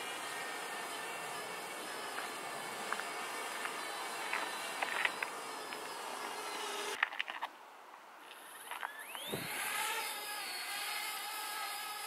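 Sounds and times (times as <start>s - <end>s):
drone motors whining: 0.0s - 7.0s, 8.3s - 12.0s.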